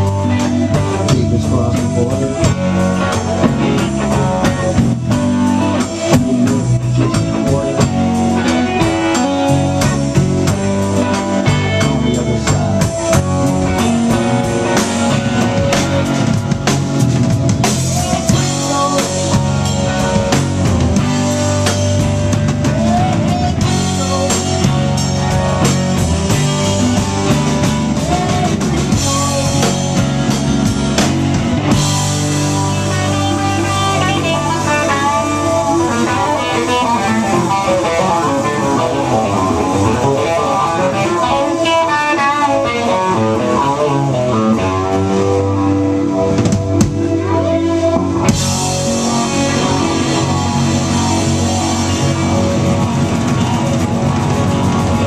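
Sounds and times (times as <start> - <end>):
distorted electric guitars: 0.0 - 55.0
drum kit beat: 0.0 - 55.0
electric bass: 0.0 - 55.0.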